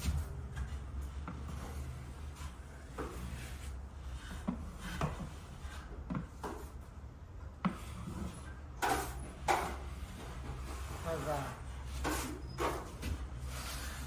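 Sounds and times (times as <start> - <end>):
drywall knife scraping compound: 0.0 - 6.8, 7.7 - 14.0.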